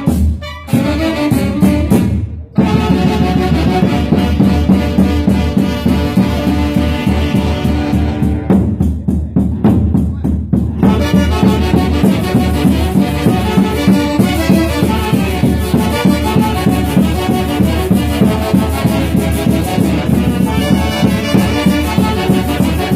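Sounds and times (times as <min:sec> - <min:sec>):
folk band with wind instruments: 0:00.0 - 0:22.9.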